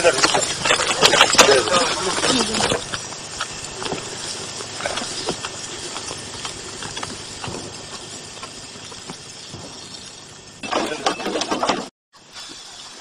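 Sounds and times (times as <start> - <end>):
steady hiss: 0.0 - 11.1, 12.2 - 13.0.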